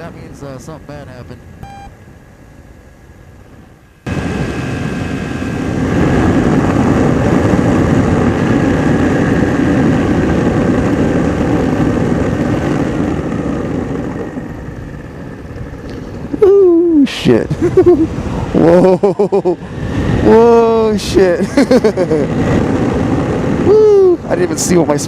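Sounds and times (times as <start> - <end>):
ultralight airplane engine and propeller: 0.0 - 25.0.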